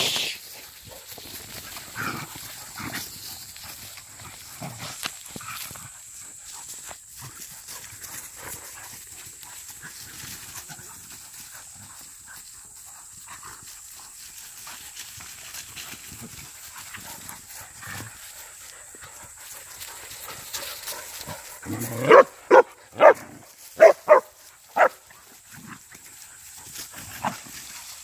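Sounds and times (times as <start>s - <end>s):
paws scuffling through dry leaves: 0.4s - 28.0s.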